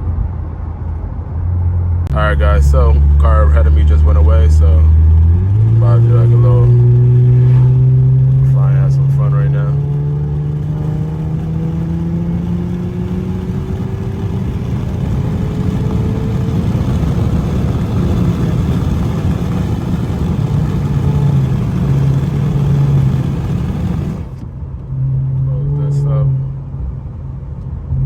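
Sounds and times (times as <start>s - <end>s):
road noise: 0.0s - 28.0s
car engine accelerating hard: 2.1s - 26.5s.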